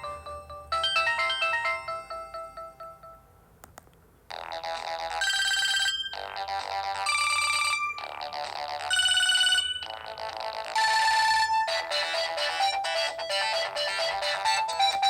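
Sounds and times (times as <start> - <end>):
electronic phone ringtone melody: 0.0 - 3.3, 4.6 - 15.0.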